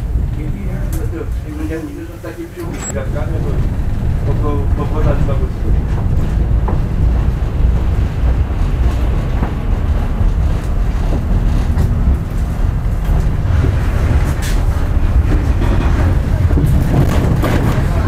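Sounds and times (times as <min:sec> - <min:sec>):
tram wheels rumbling on track: 0:00.0 - 0:18.0.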